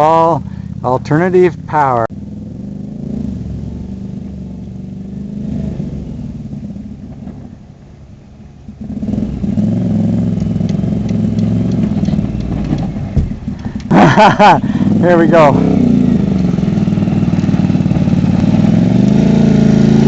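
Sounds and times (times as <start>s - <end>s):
motorcycle engine running: 0.0s - 7.6s, 8.6s - 20.0s.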